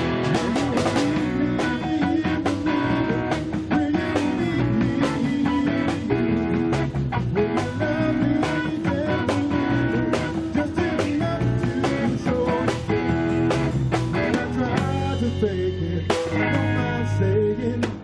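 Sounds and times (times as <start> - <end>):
drums beating: 0.0 - 16.9, 17.8 - 18.0
guitar: 0.0 - 18.0
rock band playing: 0.0 - 18.0.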